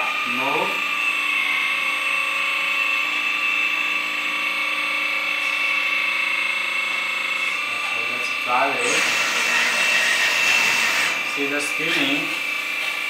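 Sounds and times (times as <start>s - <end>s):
hydraulic pump electric whine: 0.0s - 13.0s.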